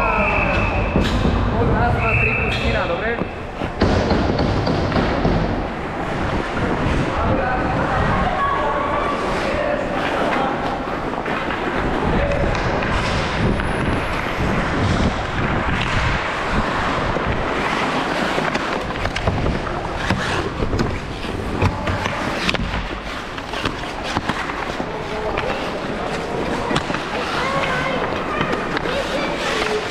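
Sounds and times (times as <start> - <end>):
skates scraping and rolling: 0.0 - 29.9.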